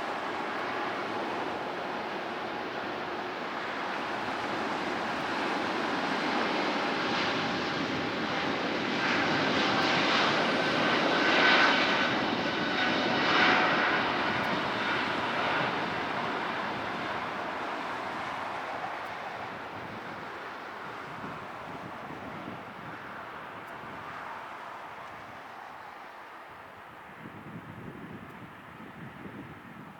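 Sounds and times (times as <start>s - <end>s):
jet airliner passing: 0.0s - 29.7s
jet engine whine: 0.0s - 29.9s.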